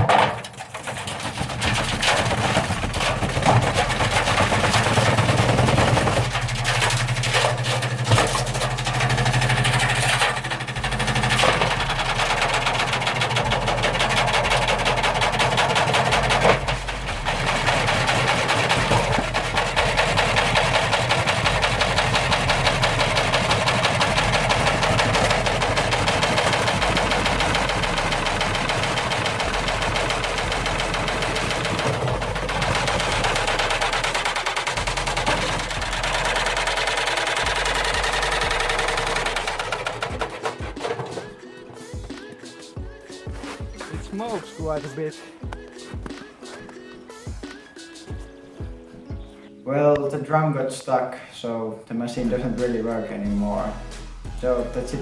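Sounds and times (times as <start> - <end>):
fast rattling clatter: 0.0 - 47.5
washing machine motor humming: 0.0 - 49.4.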